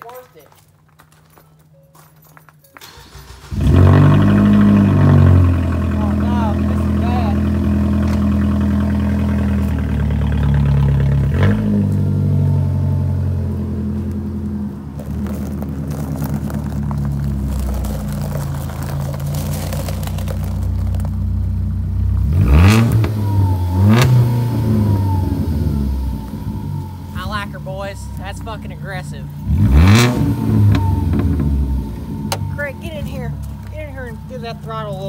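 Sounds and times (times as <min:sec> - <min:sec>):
engine revving: 0:02.8 - 0:34.9
car engine idling: 0:02.8 - 0:35.0.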